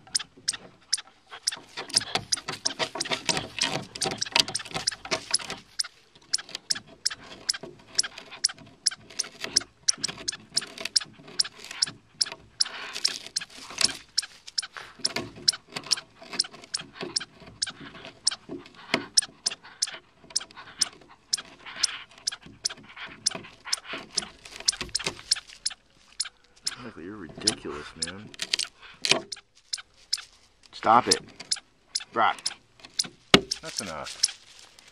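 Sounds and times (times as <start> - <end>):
dog gnawing wood with cracks: 0.0 - 31.6, 32.4 - 34.9.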